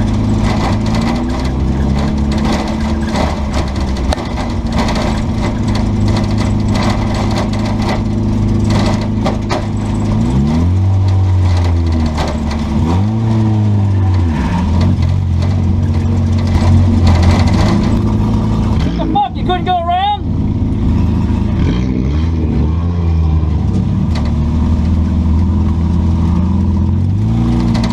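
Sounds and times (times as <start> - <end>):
car accelerating: 0.0 - 27.9
car engines running: 0.0 - 27.9.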